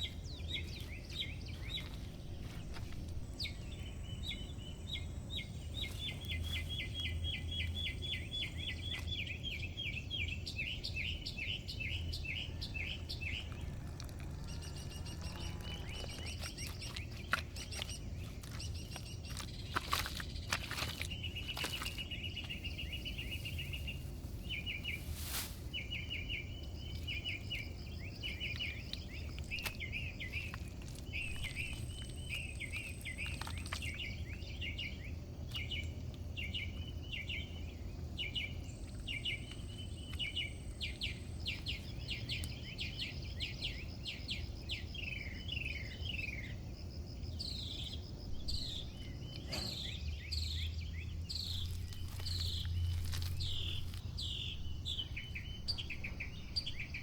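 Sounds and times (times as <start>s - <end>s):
low outdoor rumble: 0.0s - 57.0s
small birds chirping: 0.0s - 57.0s.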